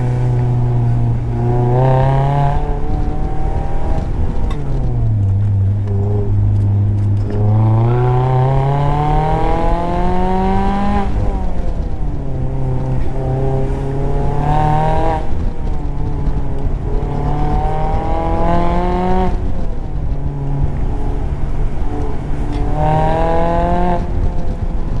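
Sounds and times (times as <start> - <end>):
car engine revving through gears: 0.0 - 25.0
road and wind noise: 0.0 - 25.0.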